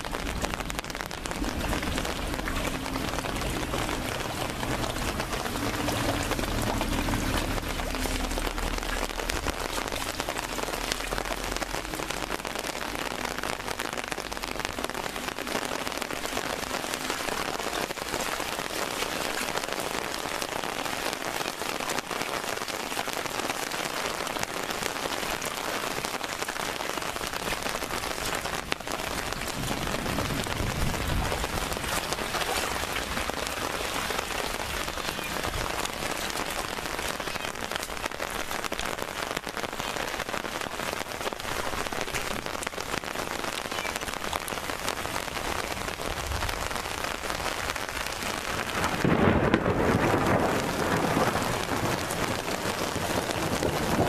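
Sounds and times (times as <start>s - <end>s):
heavy rain on water and paving: 0.0s - 54.0s.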